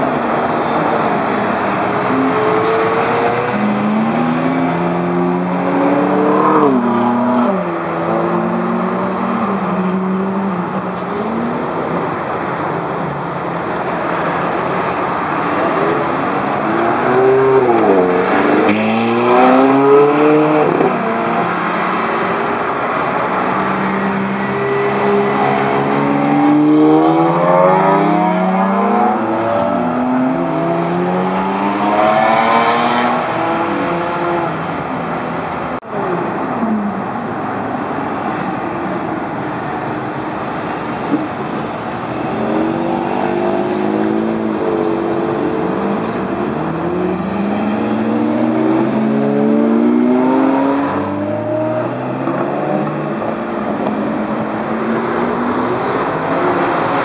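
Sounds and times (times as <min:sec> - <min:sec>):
sports cars accelerating hard: 0:00.0 - 0:39.4, 0:40.0 - 0:57.0.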